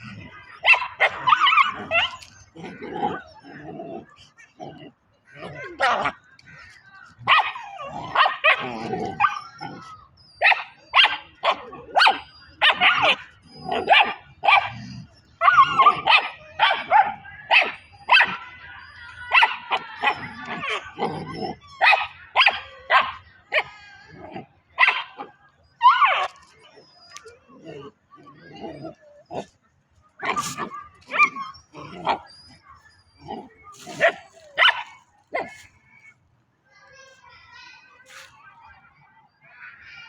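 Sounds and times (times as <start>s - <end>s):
puppies barking and yipping: 0.0s - 36.2s.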